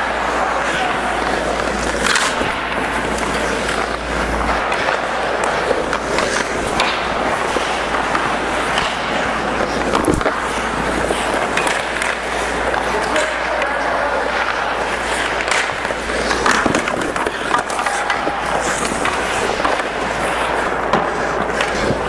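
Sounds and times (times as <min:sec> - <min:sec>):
clacks of sticks and pucks: 0:00.0 - 0:22.0
skate blades scraping ice: 0:00.0 - 0:22.0.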